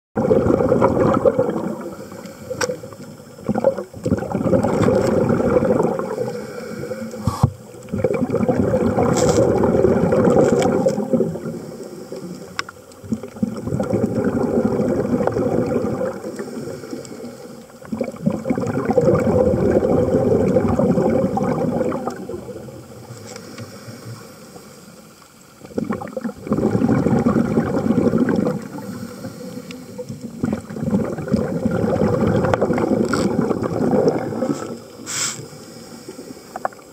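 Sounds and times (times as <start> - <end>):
underwater air bubbling: 0.2 - 36.9.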